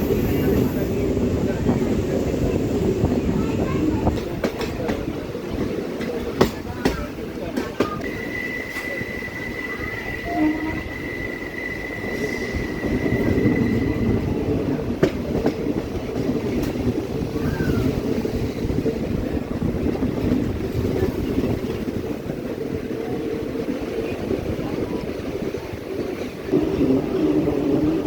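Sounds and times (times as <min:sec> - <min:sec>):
train coaches rumbling: 0:00.0 - 0:28.0.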